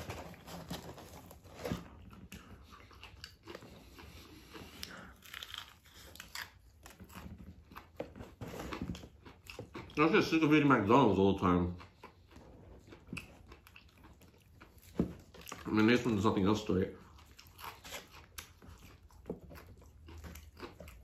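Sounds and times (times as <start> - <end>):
person chewing crispy food: 0.2 - 21.0.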